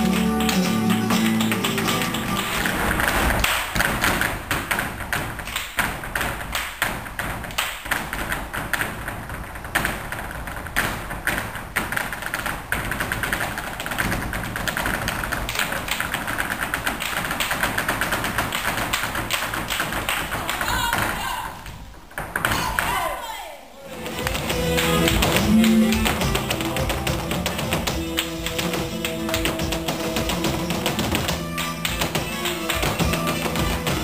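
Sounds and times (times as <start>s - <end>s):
heeled shoes tapping wooden stage: 0.0s - 23.0s, 24.0s - 34.0s.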